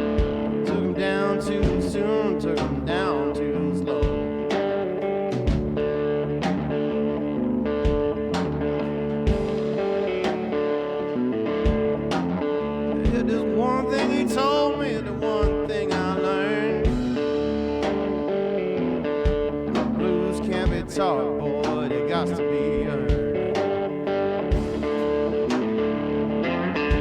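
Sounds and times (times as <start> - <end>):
guitar-led song with drum beat: 0.0 - 27.0.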